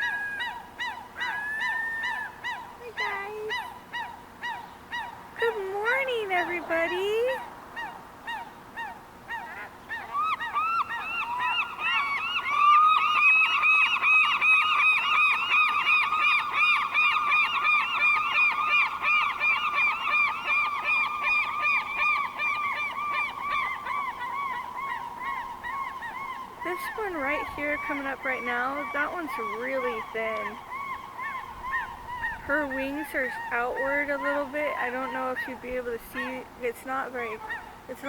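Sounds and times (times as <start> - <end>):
seagull yelping calls: 0.0 - 38.0.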